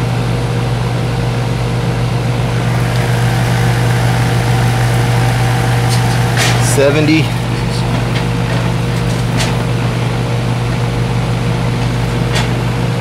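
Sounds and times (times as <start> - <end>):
condenser fan noise: 0.0 - 13.0
heat pump compressor hum: 2.2 - 13.0.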